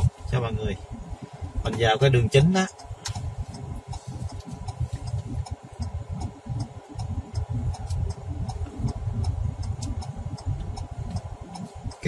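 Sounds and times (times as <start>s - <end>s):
car driving rumble: 0.0s - 12.0s
turn signal ticking: 0.0s - 12.0s.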